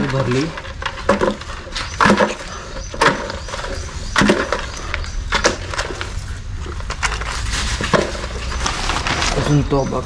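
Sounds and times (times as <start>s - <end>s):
knocks and rattles: 0.0s - 10.0s.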